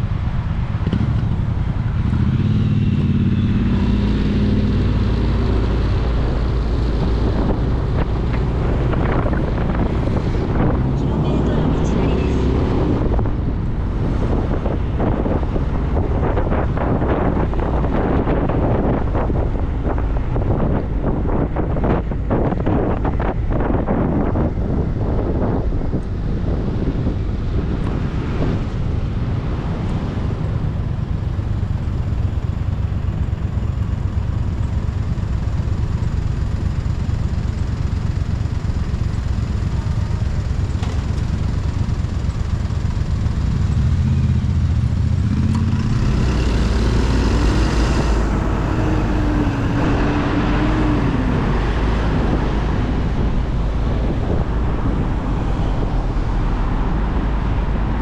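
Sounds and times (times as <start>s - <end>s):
motorcycle engine rumble: 0.0s - 58.0s
road and wind noise: 0.0s - 58.0s.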